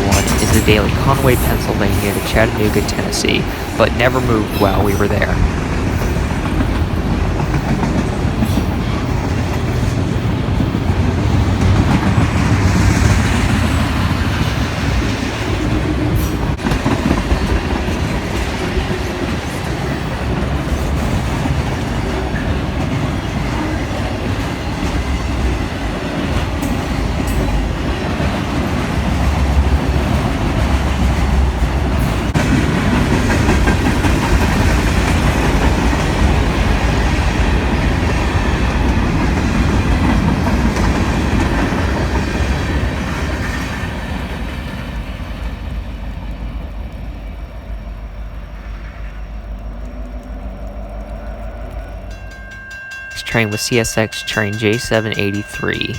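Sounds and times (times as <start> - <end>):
train wheels rumbling on rail: 0.0 - 53.2
train cars clicking and clattering: 0.0 - 55.9.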